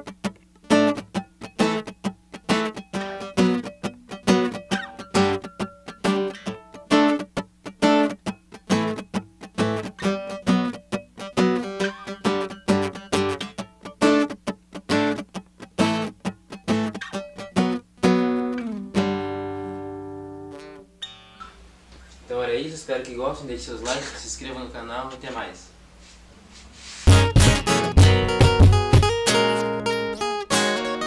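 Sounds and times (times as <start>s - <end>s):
acoustic guitar strumming: 0.0s - 21.7s, 27.0s - 31.0s.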